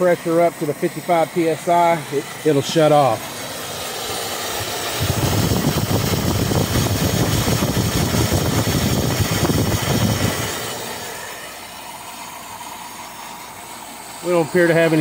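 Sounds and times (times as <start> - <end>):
electric water pump running: 0.0 - 15.0.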